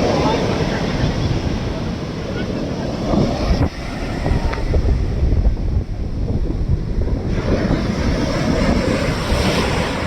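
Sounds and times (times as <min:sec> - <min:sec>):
ocean surf washing: 0:00.0 - 0:10.0
wind buffeting the microphone: 0:00.0 - 0:10.0.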